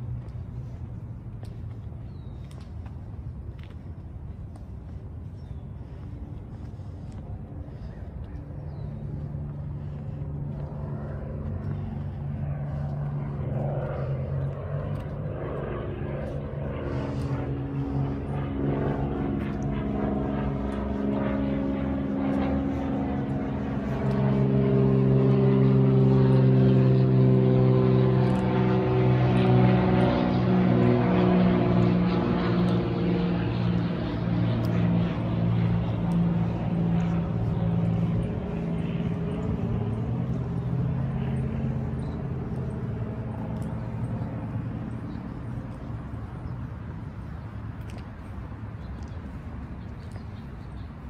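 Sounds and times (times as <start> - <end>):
propeller plane engine drone: 0.0 - 51.0.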